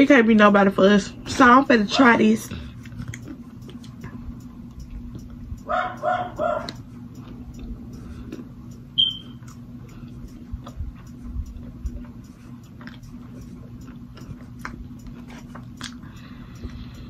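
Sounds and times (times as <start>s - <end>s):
steady low hum: 0.0s - 17.0s
person chewing: 2.5s - 17.0s.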